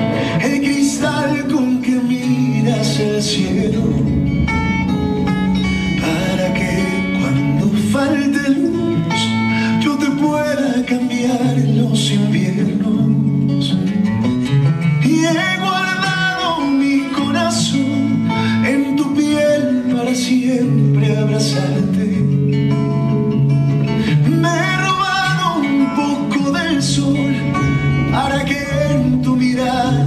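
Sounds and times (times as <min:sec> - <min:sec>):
person singing: 0:00.0 - 0:14.3, 0:14.9 - 0:22.4, 0:24.0 - 0:30.0
bass line: 0:00.0 - 0:20.0, 0:20.6 - 0:30.0
plucked acoustic guitar: 0:00.0 - 0:30.0.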